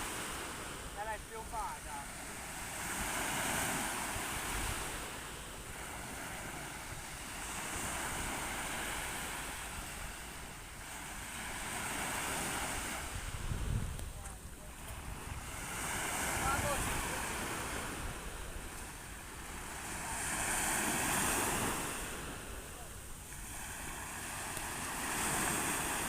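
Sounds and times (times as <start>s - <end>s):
sea waves washing: 0.0s - 26.0s
wind rumbling on microphone: 2.3s - 26.0s.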